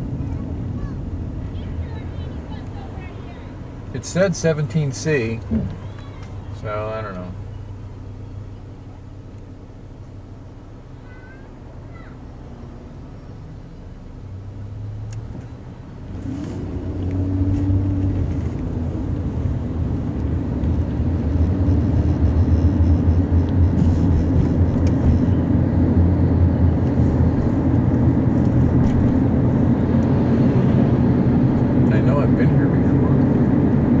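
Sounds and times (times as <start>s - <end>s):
car engine: 0.0s - 34.0s
road noise inside car: 0.0s - 34.0s.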